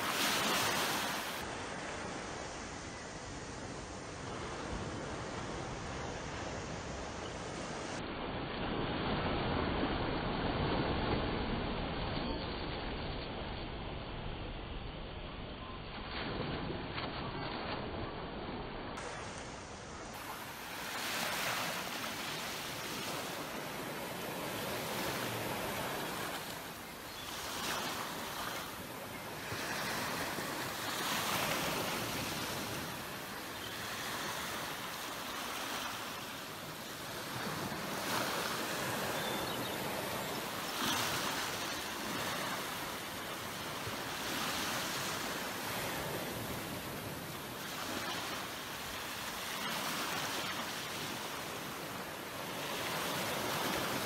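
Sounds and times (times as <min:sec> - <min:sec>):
small waves on sandy beach: 0:00.0 - 0:14.4, 0:15.9 - 0:54.0.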